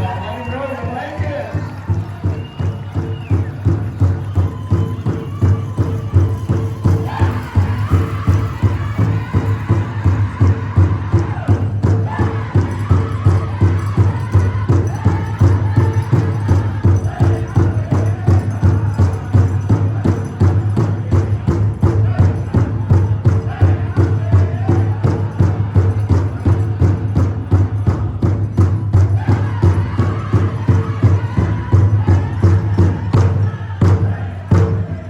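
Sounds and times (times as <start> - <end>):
big drum fast beat: 0.0 - 35.0
drum group singing: 0.0 - 35.0.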